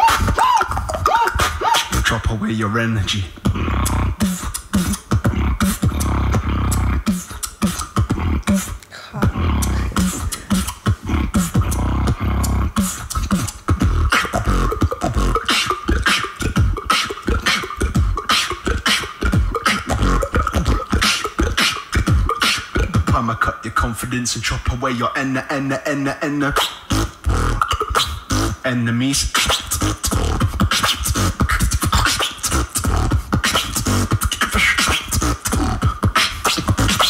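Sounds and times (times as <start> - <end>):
held vocal tone: 0.0 - 37.0
person beatboxing: 0.0 - 37.0.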